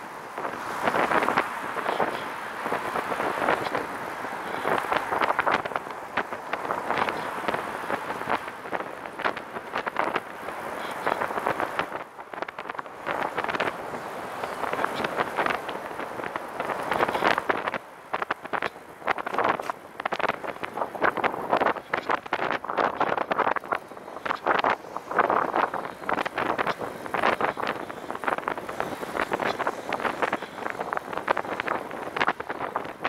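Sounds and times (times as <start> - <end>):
passing car traffic: 0.0 - 33.0
road noise: 0.0 - 33.0
wind rushing over microphone: 0.0 - 33.0.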